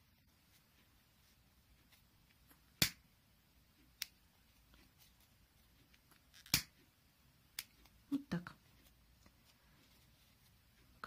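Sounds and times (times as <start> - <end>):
faint room tone: 0.0 - 11.0.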